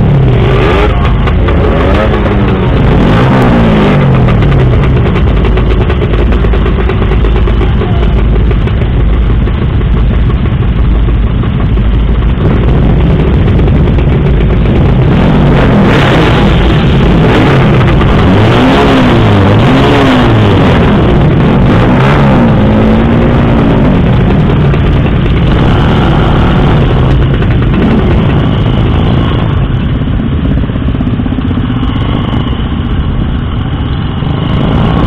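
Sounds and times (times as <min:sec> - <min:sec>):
motorcycle engines idling: 0:00.0 - 0:35.0
motorcycle engines revving: 0:00.0 - 0:35.0.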